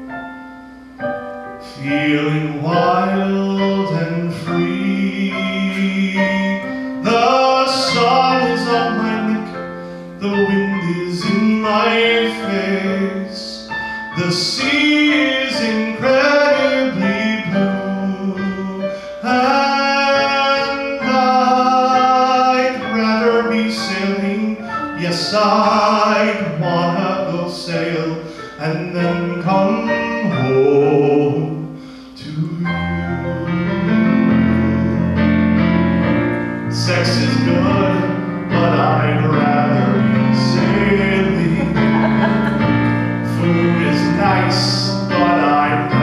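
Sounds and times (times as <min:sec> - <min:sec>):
electronic keyboard: 0:00.0 - 0:46.0
man singing into microphone: 0:01.6 - 0:35.8, 0:36.6 - 0:46.0.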